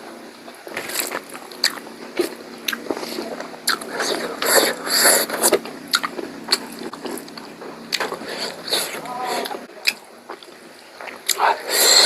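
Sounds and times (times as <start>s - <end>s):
wet chewing and smacking: 0.7s - 12.0s.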